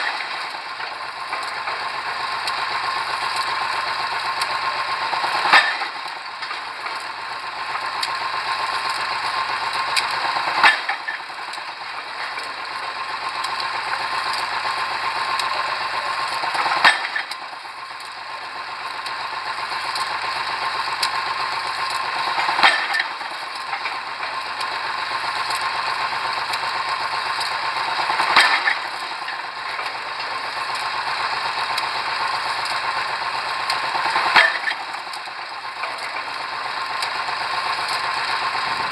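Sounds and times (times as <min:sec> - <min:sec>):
rig engine running: 0:00.0 - 0:38.9.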